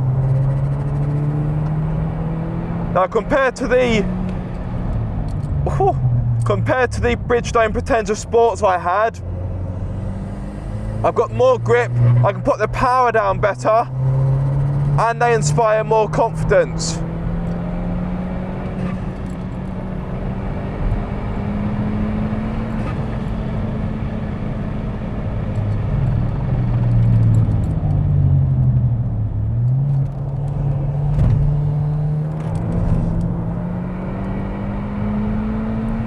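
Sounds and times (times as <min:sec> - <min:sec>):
car engine pulling hard: 0:00.0 - 0:36.0
road and tyre noise: 0:00.0 - 0:36.0.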